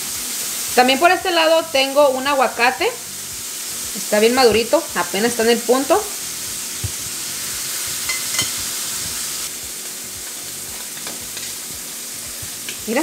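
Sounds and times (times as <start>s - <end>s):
shrimp sizzling in a skillet: 0.0s - 13.0s.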